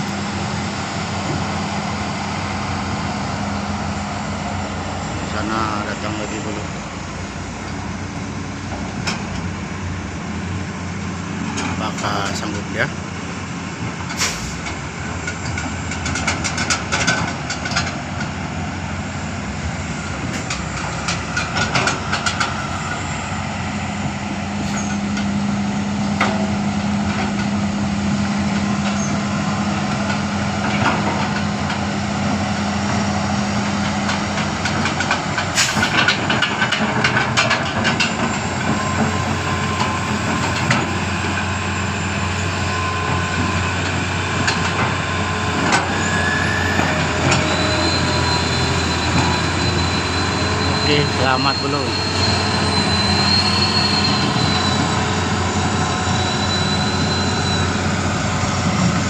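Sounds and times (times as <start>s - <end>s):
heavy truck engine running: 0.0s - 59.0s.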